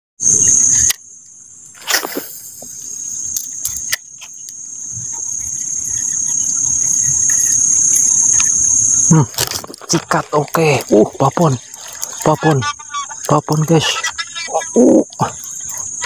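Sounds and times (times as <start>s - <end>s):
insects buzzing high-pitched drone: 0.2s - 16.0s.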